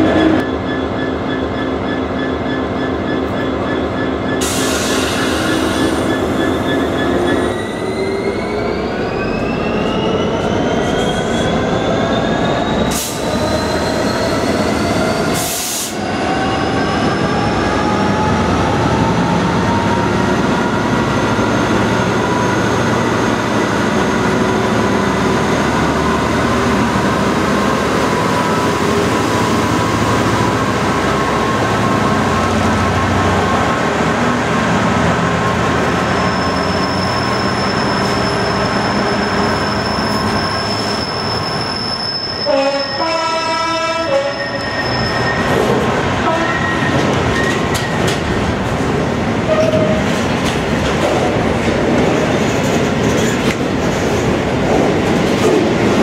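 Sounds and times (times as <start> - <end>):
diesel locomotive engine rising: 0.0 - 56.0.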